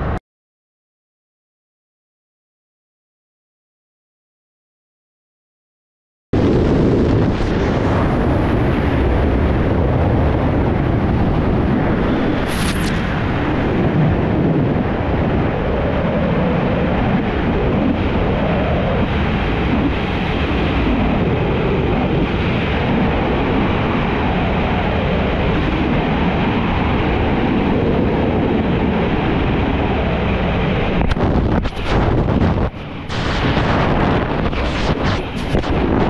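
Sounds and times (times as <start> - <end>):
wind rushing over microphone: 0.0 - 0.2, 6.4 - 36.0.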